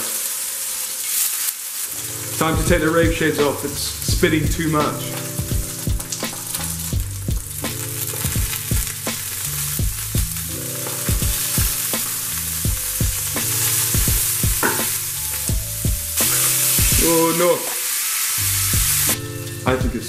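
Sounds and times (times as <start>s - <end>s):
fish fillets sizzling in a pan: 0.0s - 19.4s.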